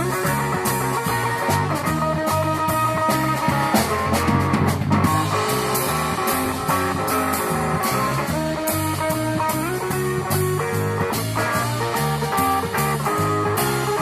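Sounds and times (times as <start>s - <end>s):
drum kit: 0.0s - 14.0s
electric guitar: 0.0s - 14.0s.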